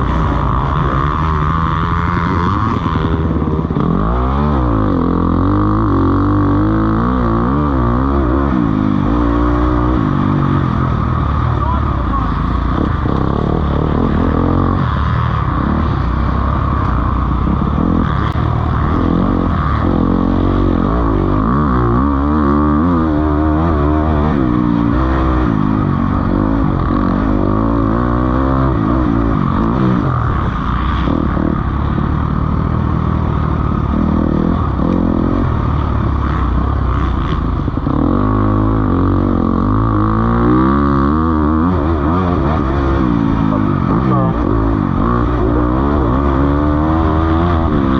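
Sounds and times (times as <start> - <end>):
motocross bikes racing: 0.0 - 47.9.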